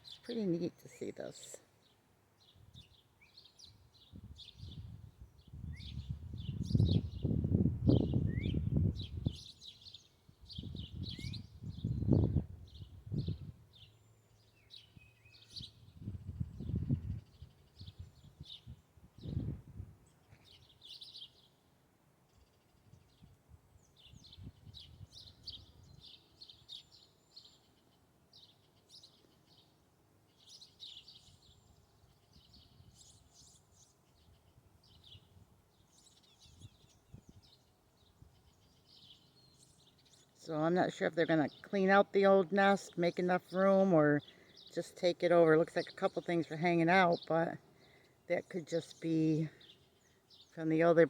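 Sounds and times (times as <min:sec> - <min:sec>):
songbirds chirping: 0:00.0 - 0:51.0.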